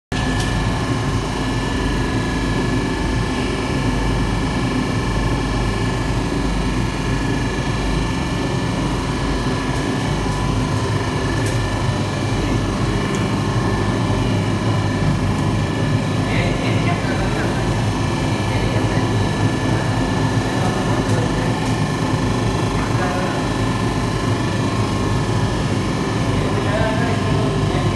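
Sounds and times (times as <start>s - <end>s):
oven burner and fans droning: 0.1s - 27.9s
thin steady whine: 0.1s - 27.9s.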